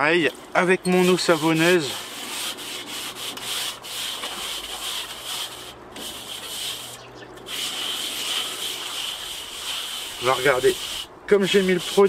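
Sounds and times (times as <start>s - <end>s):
sponge scrubbing metal bowl: 0.9s - 12.0s.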